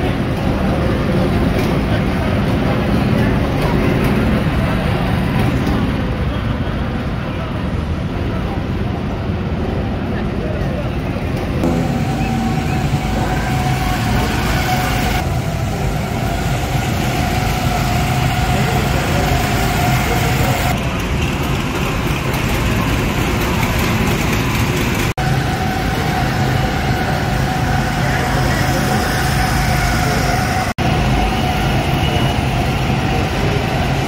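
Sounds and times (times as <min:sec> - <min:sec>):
go-kart engines droning: 0:00.0 - 0:34.0.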